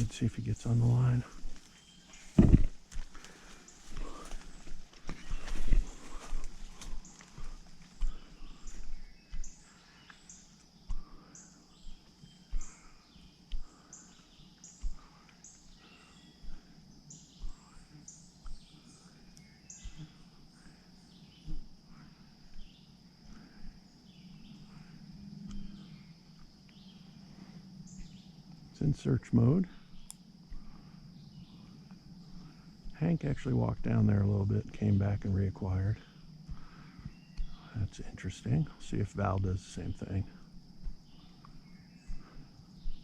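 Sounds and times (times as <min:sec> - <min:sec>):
high insect drone: 0:00.0 - 0:43.0
insect chirps: 0:00.0 - 0:43.0.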